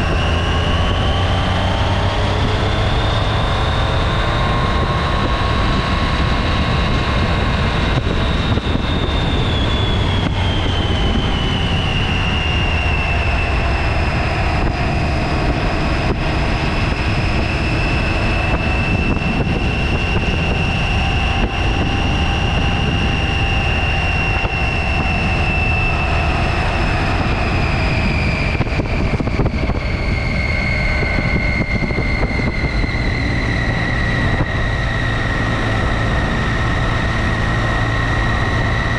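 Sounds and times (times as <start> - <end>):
high whine: 0.0 - 38.9
motorcycle engine: 0.0 - 38.9
wind noise: 0.0 - 38.9.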